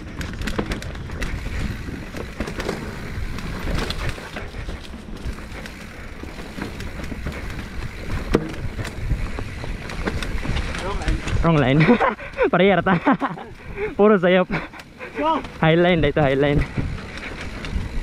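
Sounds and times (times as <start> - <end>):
bike chain and frame rattling: 0.0 - 18.0
tyres on dirt and rocks: 0.0 - 18.0.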